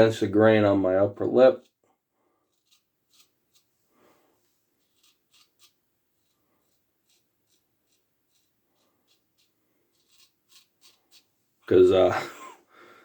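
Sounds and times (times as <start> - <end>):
razor scraping stubble: 0.0 - 12.2.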